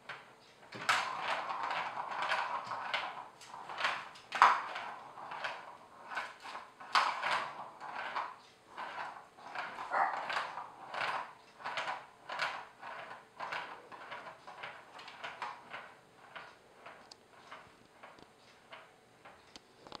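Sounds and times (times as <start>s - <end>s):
ball rolling in plastic track: 0.0s - 20.0s.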